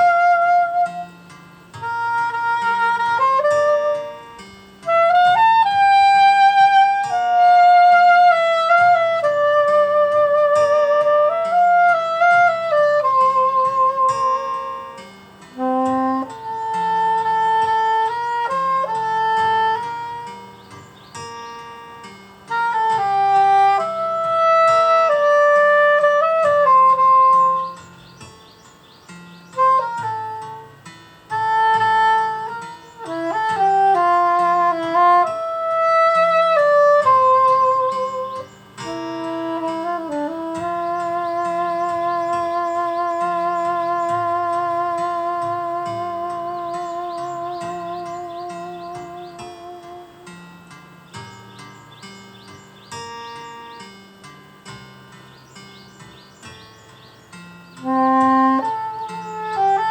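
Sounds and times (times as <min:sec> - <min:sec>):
saxophone slow melody: 0:00.0 - 0:52.2, 0:57.3 - 0:59.9
plucked-string accompaniment: 0:00.0 - 0:59.9.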